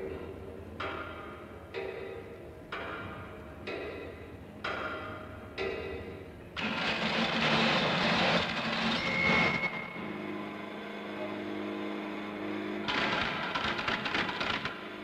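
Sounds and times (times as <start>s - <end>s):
mechanical noise: 0.0s - 15.0s
steady low hum: 0.0s - 15.0s.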